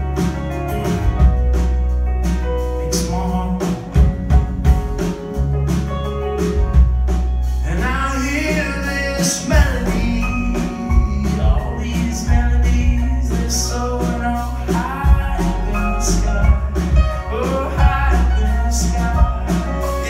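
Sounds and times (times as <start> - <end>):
drum hits: 0.0 - 7.8, 9.2 - 20.0
live band playing: 0.0 - 20.0
upright bass line: 0.0 - 20.0.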